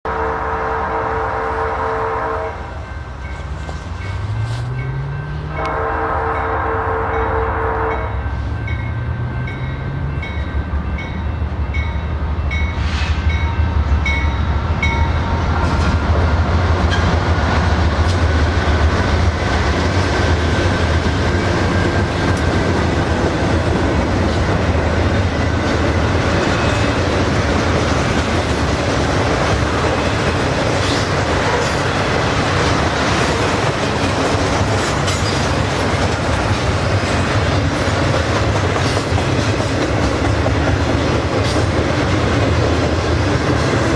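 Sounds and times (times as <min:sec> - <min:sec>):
locomotive engine rumble: 0:08.2 - 0:43.9.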